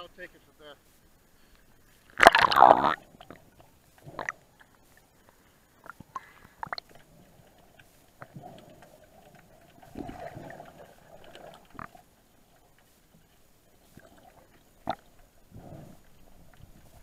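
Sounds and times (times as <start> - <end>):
muffled underwater rumble: 2.6 - 17.0.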